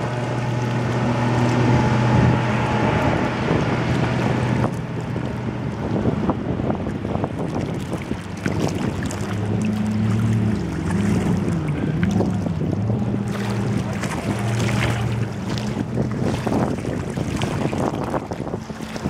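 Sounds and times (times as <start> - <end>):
boat engine drone: 0.0 - 19.0
rush of wake and waves: 0.0 - 19.0
wind rumbling on microphone: 0.0 - 19.0.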